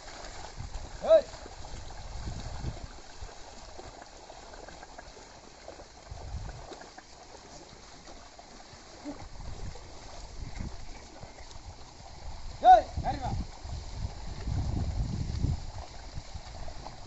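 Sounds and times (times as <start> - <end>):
hooves splashing in water: 0.0 - 17.0
water and mud sloshing: 0.0 - 17.0.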